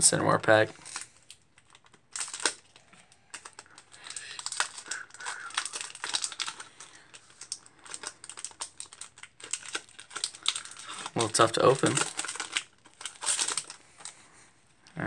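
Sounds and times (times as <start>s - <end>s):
foil wrapper crinkling and tearing: 0.6s - 14.2s.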